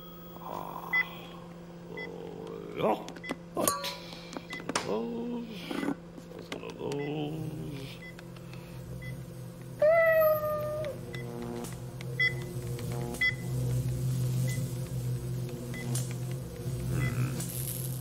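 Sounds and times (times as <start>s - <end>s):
microwave oven humming: 0.0s - 18.0s.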